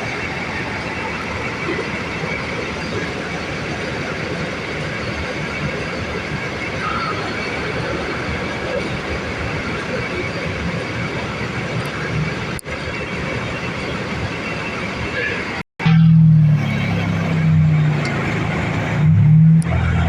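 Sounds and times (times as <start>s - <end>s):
diesel engines idling: 0.0s - 20.0s.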